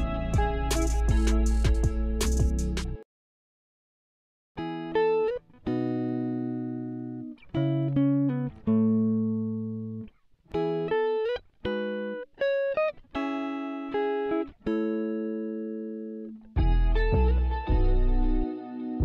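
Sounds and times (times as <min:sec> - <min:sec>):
plucked guitar melody: 0:00.0 - 0:03.0, 0:04.6 - 0:19.0.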